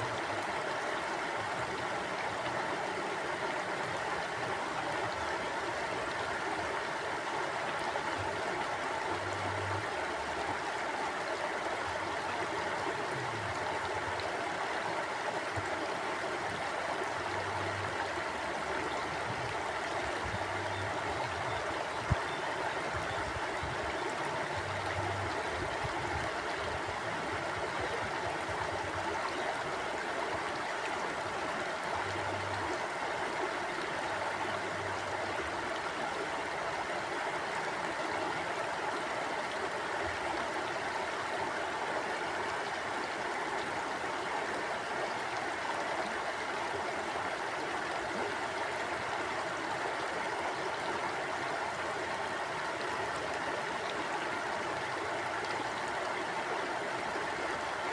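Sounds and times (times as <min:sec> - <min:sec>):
river flowing over rocks: 0:00.0 - 0:57.9.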